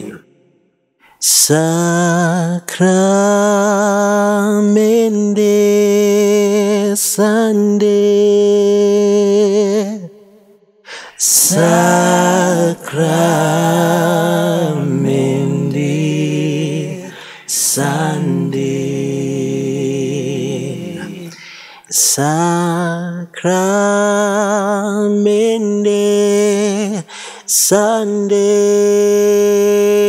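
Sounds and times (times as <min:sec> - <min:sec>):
men singing a hymn a cappella: 0:00.0 - 0:00.2, 0:01.2 - 0:10.1, 0:11.1 - 0:30.0.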